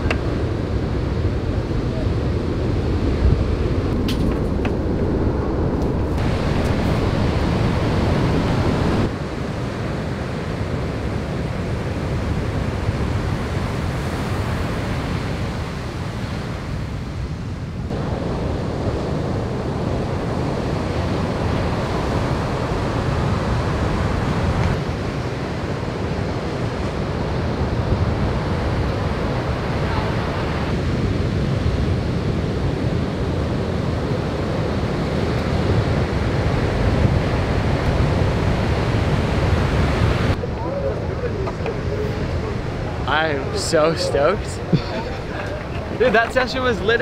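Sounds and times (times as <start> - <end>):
wind noise on microphone: 0.0 - 43.6
ocean waves breaking: 0.0 - 47.0.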